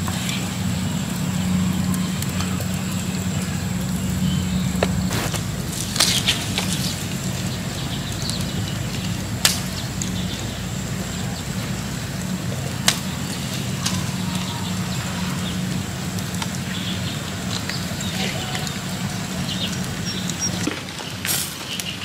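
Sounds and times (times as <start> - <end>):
charcoal fire crackling: 0.0 - 22.0
fire popping: 0.0 - 22.0
steady low rumble: 0.0 - 22.0.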